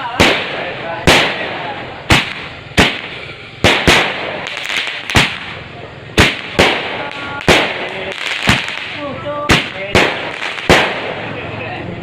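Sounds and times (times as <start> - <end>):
fireworks bangs: 0.0 - 11.8
noisy hiss: 0.0 - 12.0.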